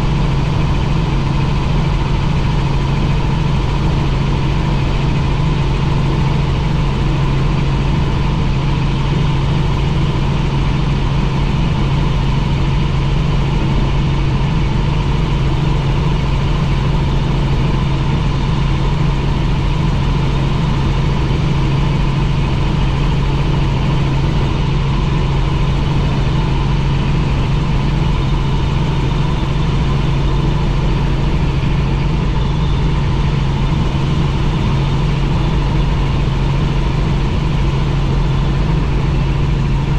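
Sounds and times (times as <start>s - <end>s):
faint steady whine: 0.0s - 39.9s
helicopter engine and rotors droning: 0.0s - 39.9s.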